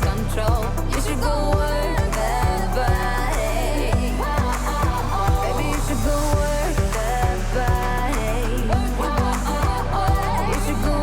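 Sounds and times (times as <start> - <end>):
pop song with female vocals: 0.0 - 11.0.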